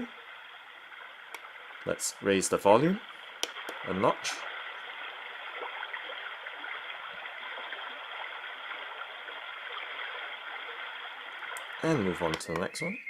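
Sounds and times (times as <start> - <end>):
white noise machine rain hiss: 0.0 - 13.0.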